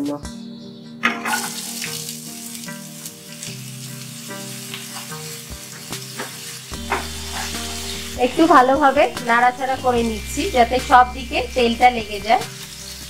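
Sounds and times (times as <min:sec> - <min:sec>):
potatoes sizzling in hot oil: 0:01.2 - 0:13.0.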